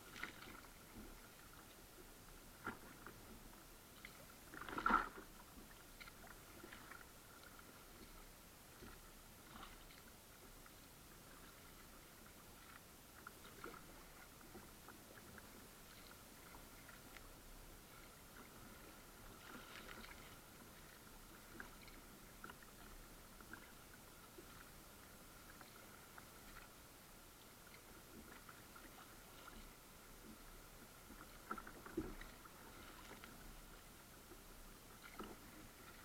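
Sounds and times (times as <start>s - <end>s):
paddle splashes and drips: 0.0s - 36.0s.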